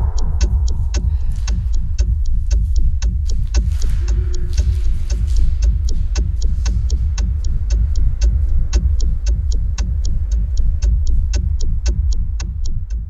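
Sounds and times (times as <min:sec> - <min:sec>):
heavy deep bass: 0:00.0 - 0:13.0
music with ticking beat: 0:00.0 - 0:13.0.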